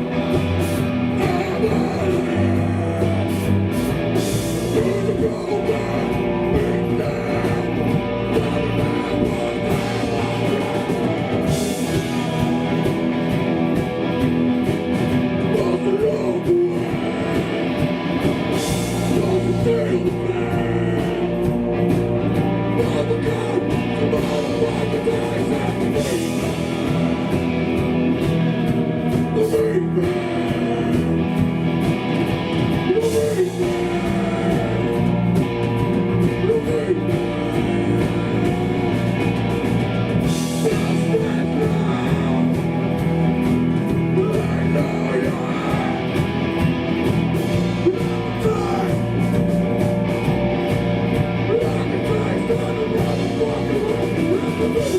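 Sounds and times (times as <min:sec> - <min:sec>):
bass: 0:00.0 - 0:54.9
drums: 0:00.0 - 0:54.9
electric guitars: 0:00.0 - 0:54.9
punk vocals: 0:00.0 - 0:54.9.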